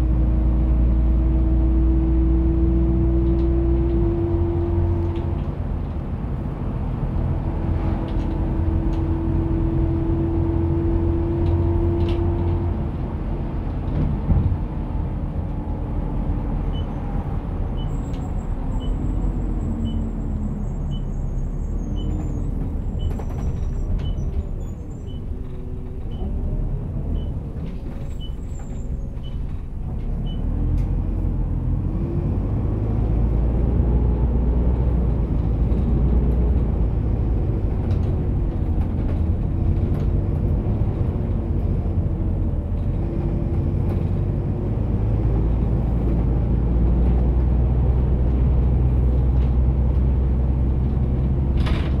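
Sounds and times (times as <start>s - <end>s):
bus engine and road rumble: 0.0s - 52.0s.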